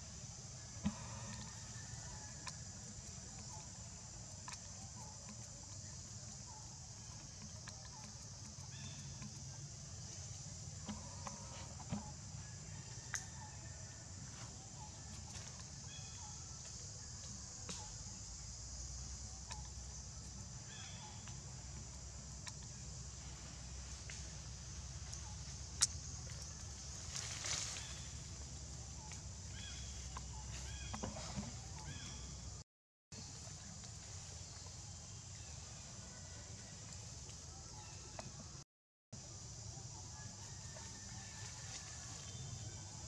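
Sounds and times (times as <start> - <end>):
high insect drone: 0.0 - 32.6, 39.2 - 43.0.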